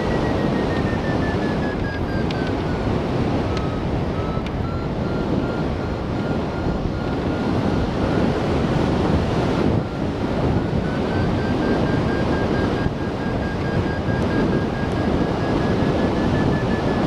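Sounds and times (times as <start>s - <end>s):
variometer beeping: 0.0s - 17.0s
wind rushing over microphone: 0.0s - 17.0s.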